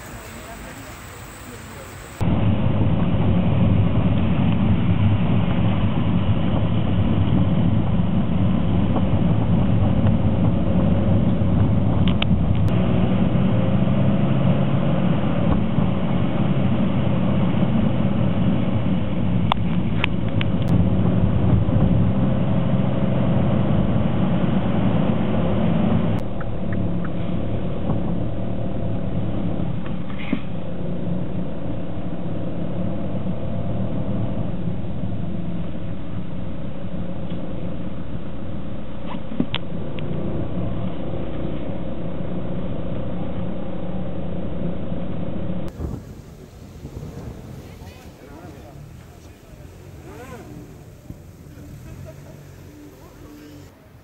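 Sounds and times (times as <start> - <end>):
car engines running: 0.0 - 54.0.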